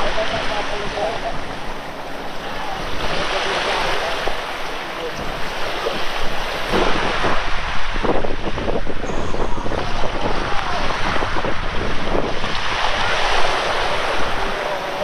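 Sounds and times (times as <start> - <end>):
waves washing onto sand: 0.0 - 15.0
wind buffeting microphone: 0.0 - 15.0.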